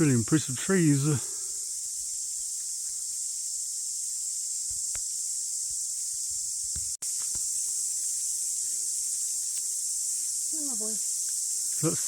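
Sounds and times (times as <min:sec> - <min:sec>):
cicadas chorus: 0:00.0 - 0:12.0.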